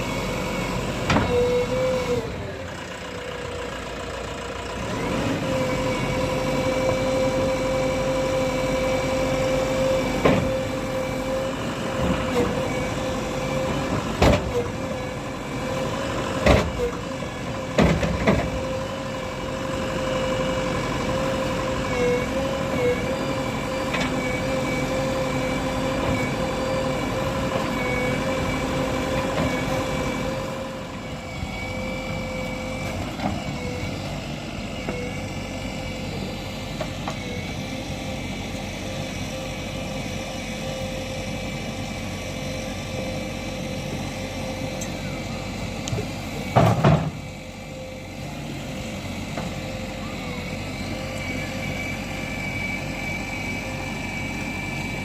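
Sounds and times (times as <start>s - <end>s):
diesel engine running with whine: 0.0s - 55.0s.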